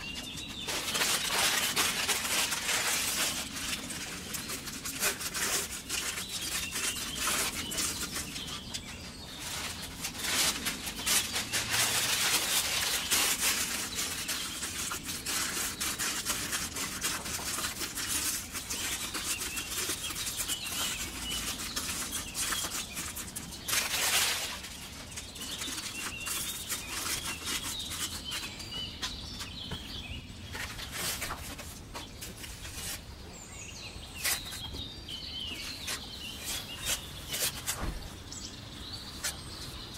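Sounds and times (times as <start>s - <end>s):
newspaper rustling and crumpling: 0.0s - 33.4s, 34.1s - 39.9s
faint birds chirping: 0.0s - 39.9s.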